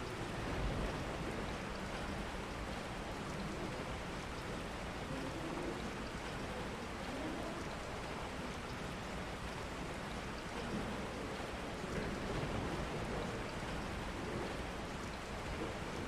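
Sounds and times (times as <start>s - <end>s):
faint low murmur: 0.0s - 16.0s
steady rain falling: 0.0s - 16.0s.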